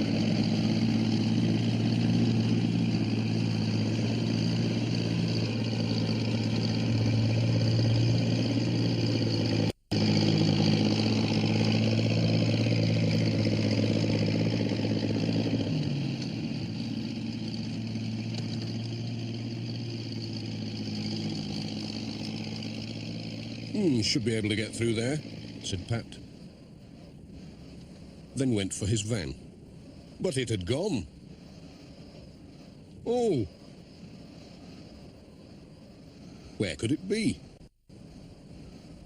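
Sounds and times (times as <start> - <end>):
engine running: 0.0 - 39.0.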